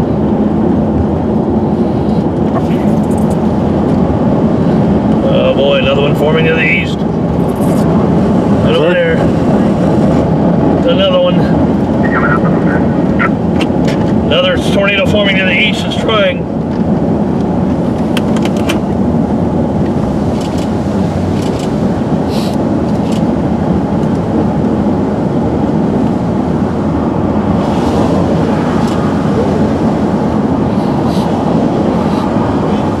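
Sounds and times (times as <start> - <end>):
engine and road rumble: 0.0 - 33.0.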